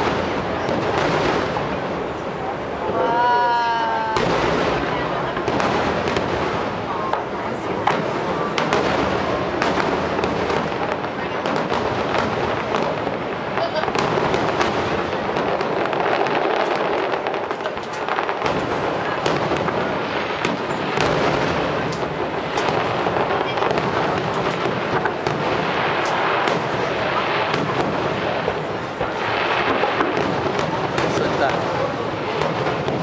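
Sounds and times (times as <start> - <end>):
crowd voices: 0.0 - 33.0
fireworks bangs and crackles: 0.0 - 33.0.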